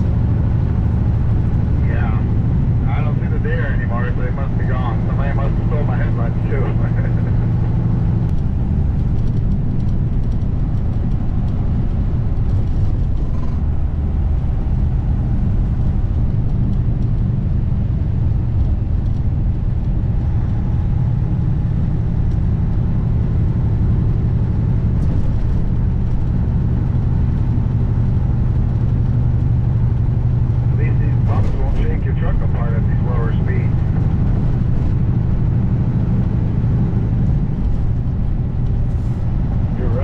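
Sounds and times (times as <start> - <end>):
truck engine droning from cab: 0.0 - 40.0.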